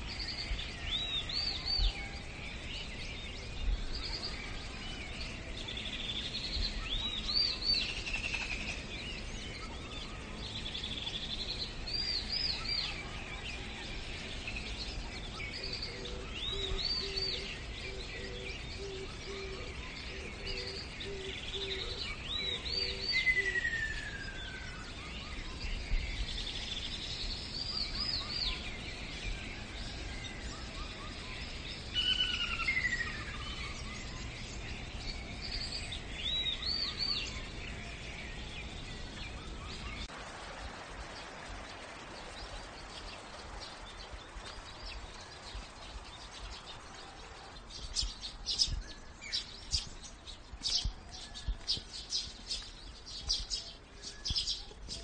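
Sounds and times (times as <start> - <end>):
background noise: 0.0 - 55.0
bird chirping: 0.0 - 55.0.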